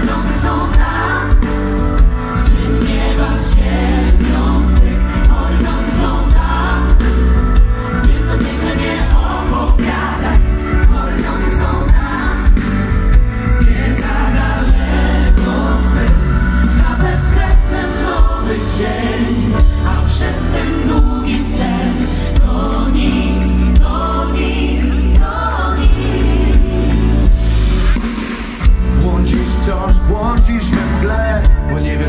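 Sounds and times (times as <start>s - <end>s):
live pop band with singers: 0.0s - 32.0s.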